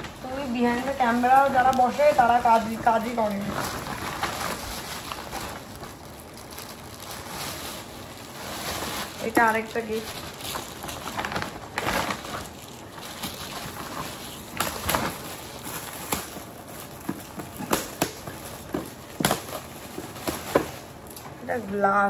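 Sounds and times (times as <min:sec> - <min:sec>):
wrapping paper rustling and crinkling: 0:00.0 - 0:22.0.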